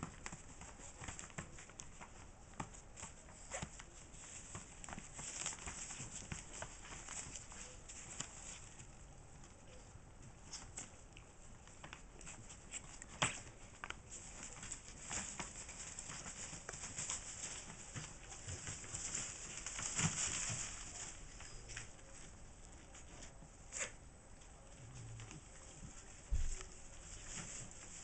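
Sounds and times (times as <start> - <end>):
paper rustling and crinkling: 0.0 - 28.0
small paws tapping and scuffing: 0.0 - 28.0.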